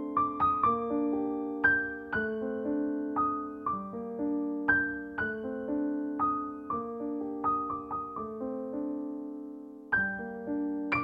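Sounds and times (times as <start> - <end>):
gentle piano piece: 0.0 - 11.0.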